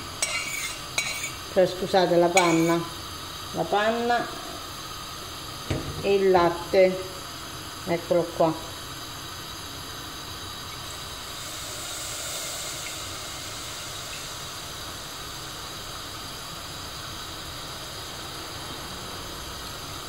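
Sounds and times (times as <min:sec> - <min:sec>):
gas stove burner hissing: 0:00.0 - 0:20.0.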